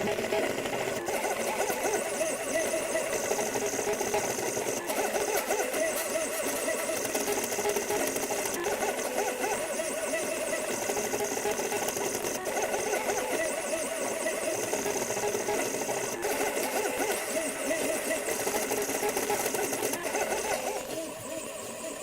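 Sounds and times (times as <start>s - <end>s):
printer stepper motors whirring: 0.0s - 22.0s.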